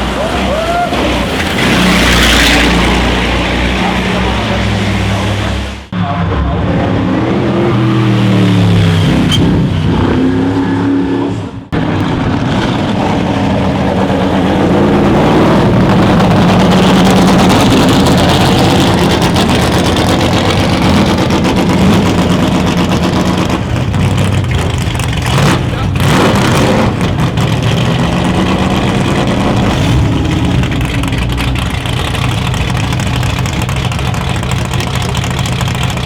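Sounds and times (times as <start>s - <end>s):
car engines accelerating hard: 0.0s - 36.0s.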